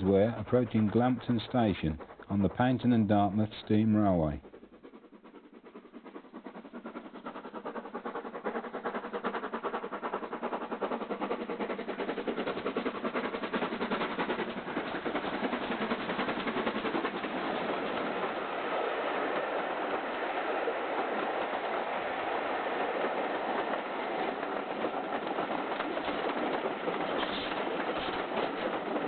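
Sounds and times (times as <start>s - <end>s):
steam locomotive exhaust beating: 0.0s - 29.0s.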